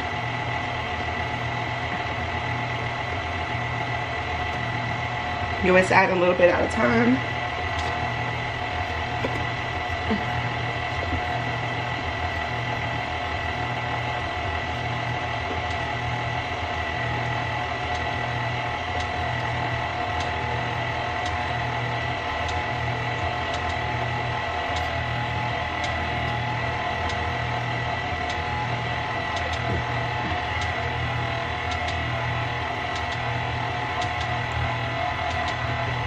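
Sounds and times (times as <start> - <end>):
stand mixer motor hum: 0.0 - 36.0.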